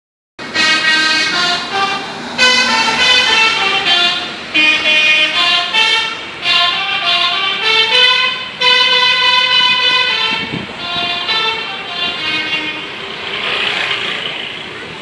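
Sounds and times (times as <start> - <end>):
bus air horns playing tune: 0.4 - 13.5.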